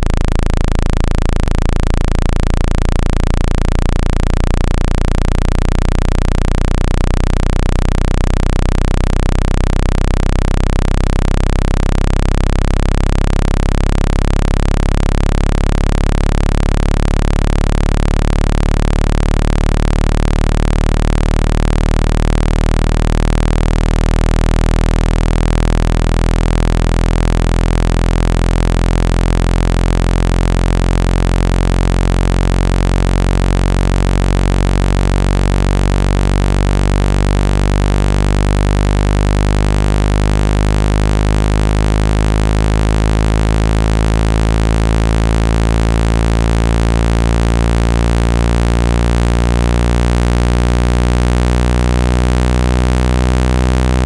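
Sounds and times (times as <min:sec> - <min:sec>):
low synthetic buzzing tone: 0:00.0 - 0:54.0.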